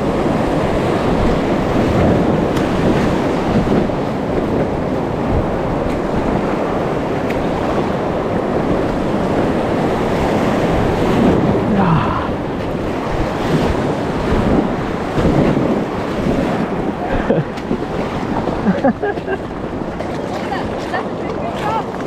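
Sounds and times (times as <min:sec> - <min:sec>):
river rapids rushing: 0:00.0 - 0:22.0
wind buffeting microphone: 0:00.0 - 0:22.0.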